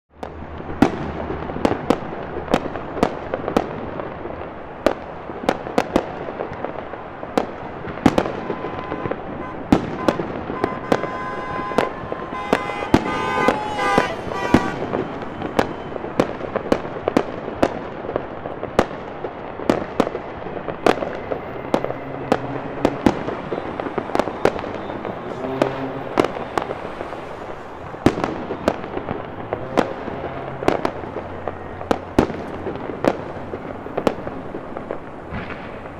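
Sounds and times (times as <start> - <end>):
fireworks and firecrackers banging: 0.1 - 35.9.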